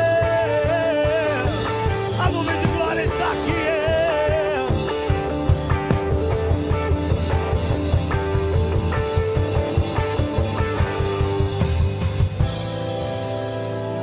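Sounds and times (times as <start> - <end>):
drum kit beat: 0.0 - 14.0
rock band playing: 0.0 - 14.0.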